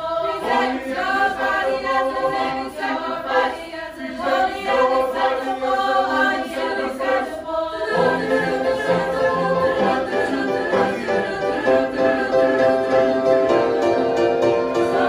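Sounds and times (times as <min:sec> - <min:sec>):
youth choir singing: 0:00.0 - 0:15.0.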